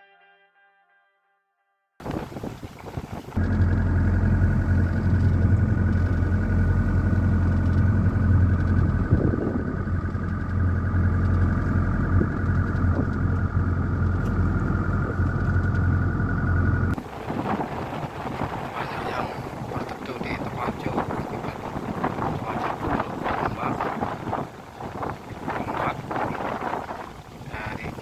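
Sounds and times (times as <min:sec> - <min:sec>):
boat engine running: 0:02.0 - 0:28.0.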